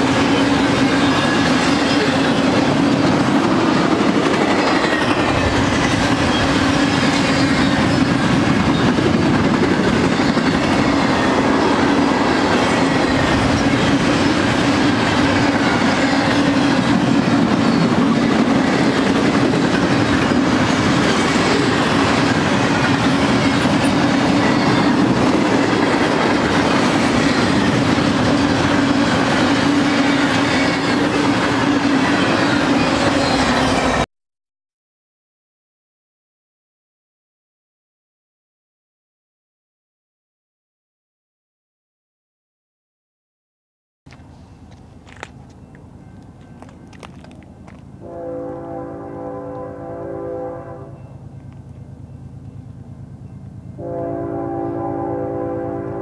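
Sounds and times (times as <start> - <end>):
train wheels on rail: 0.0 - 34.1, 44.1 - 56.0.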